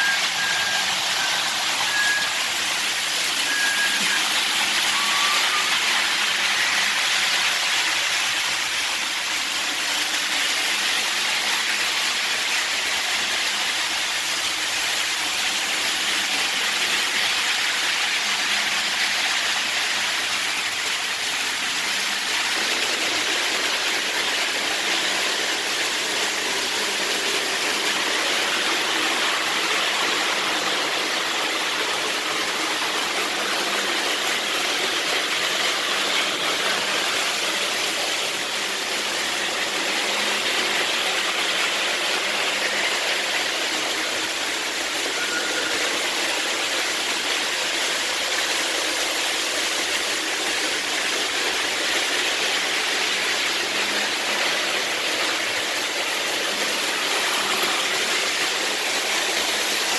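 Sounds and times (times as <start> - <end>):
model trains whirring on track: 0.0 - 59.9.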